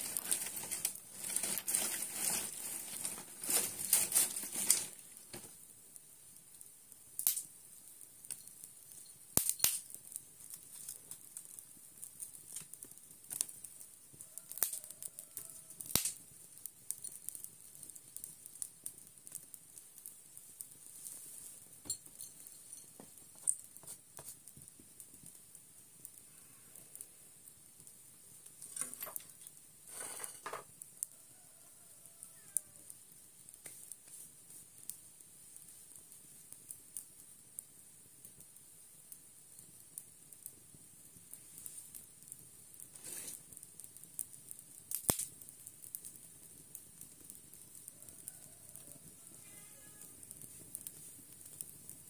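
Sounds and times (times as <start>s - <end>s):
faint steady hiss: 0.0s - 52.0s
fire crackling and popping: 0.0s - 52.0s.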